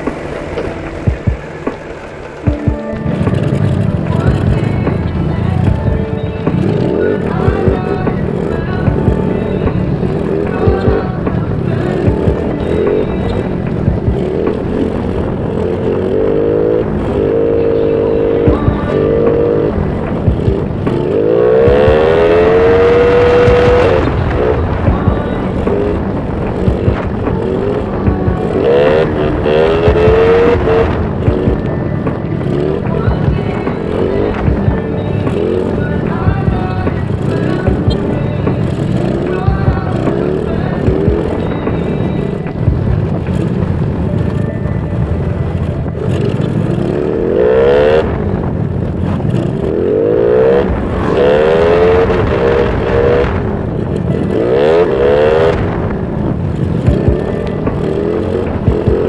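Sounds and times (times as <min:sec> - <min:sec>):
motorbike engine accelerating: 0:00.0 - 0:59.0
wind rumble on microphone: 0:02.4 - 0:59.0.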